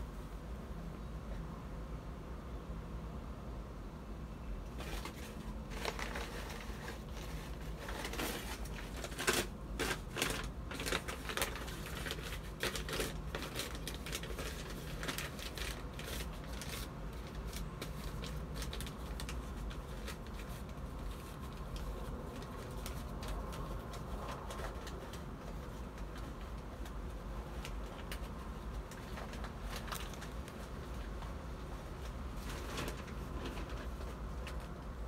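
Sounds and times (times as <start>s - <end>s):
paper rustling and crinkling: 4.7s - 35.0s.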